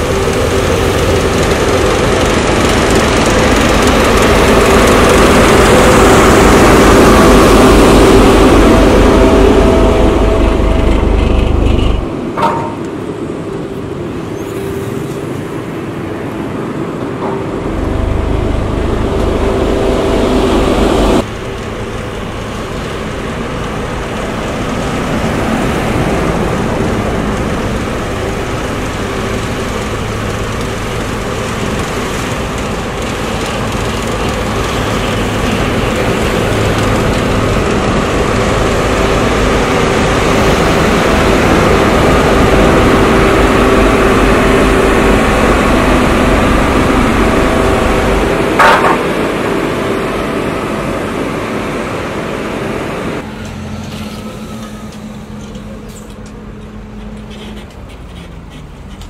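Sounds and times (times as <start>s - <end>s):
road roller diesel engine running: 0.0s - 59.0s.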